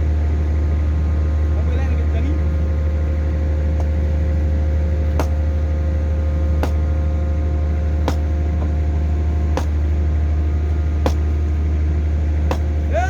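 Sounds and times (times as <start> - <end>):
pile driver engine humming: 0.0 - 13.0.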